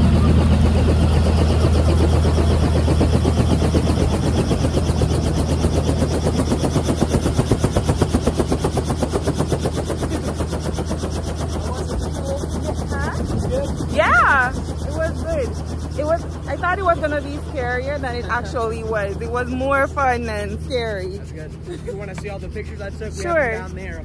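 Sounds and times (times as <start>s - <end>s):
helicopter engine hum: 0.0s - 24.0s
helicopter rotor chopping: 0.0s - 24.0s.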